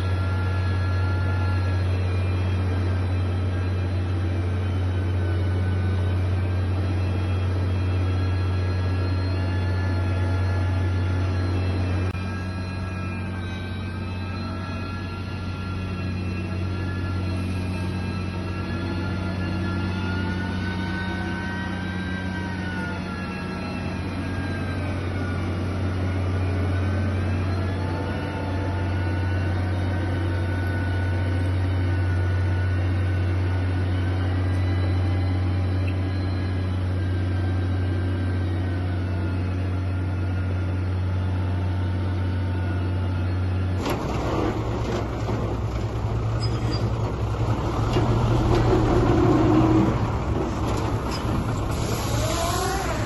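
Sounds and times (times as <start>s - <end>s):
heavy machinery diesel engine: 0.0s - 53.0s
rough engine sound: 0.0s - 53.0s.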